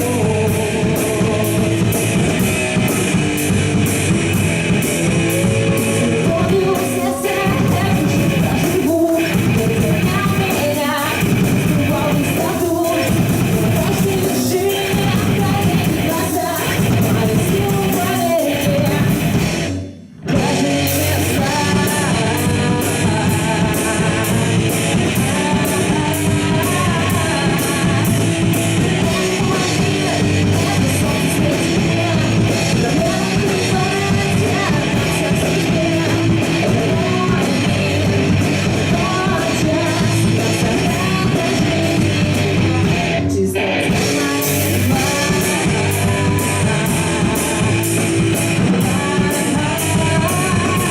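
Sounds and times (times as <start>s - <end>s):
person singing: 0.0s - 3.1s, 5.3s - 50.9s
rock band playing live: 0.0s - 50.9s.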